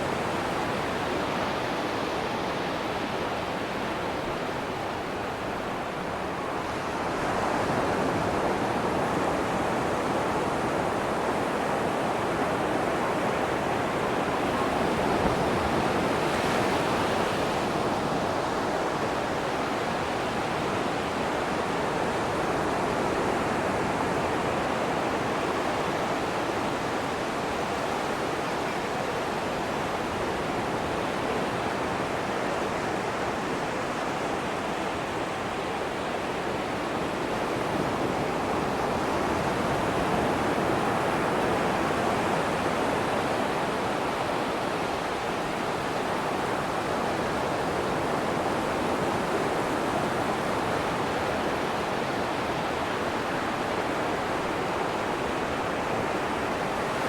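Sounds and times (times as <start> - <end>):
ocean surf washing on beach: 0.0 - 57.0.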